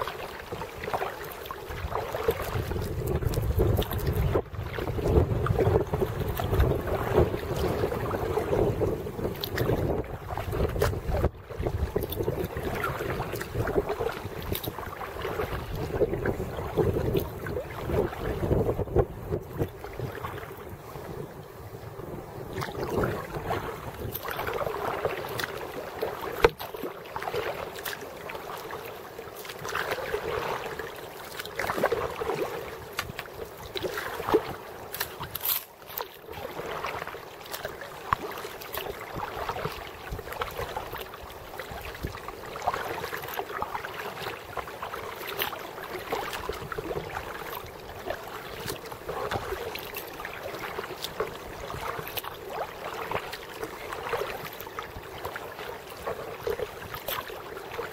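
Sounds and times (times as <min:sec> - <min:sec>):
paddle splashing through water: 0:00.0 - 0:57.9.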